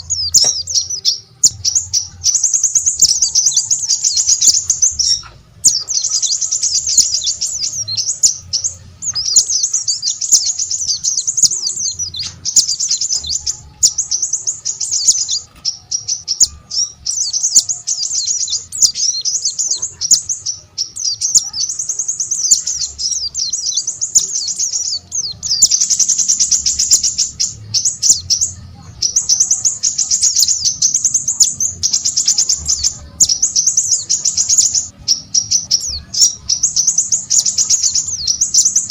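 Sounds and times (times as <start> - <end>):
songbird twittering: 0.0 - 38.9.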